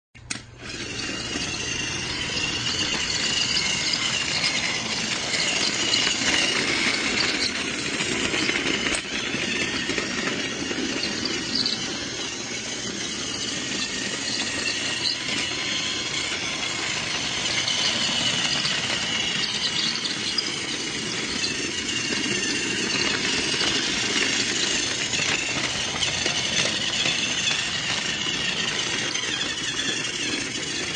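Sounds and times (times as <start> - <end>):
toy train motor whirring: 0.2 - 30.9
high whine: 0.3 - 30.9.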